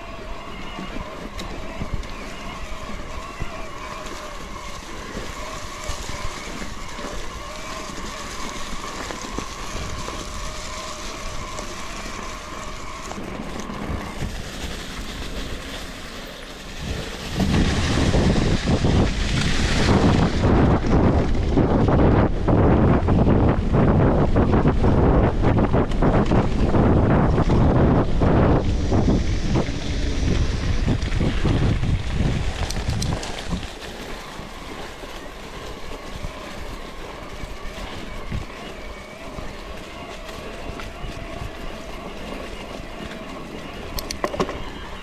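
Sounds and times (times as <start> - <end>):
bicycle riding hum: 0.0 - 45.0
wind buffeting microphone: 0.0 - 45.0.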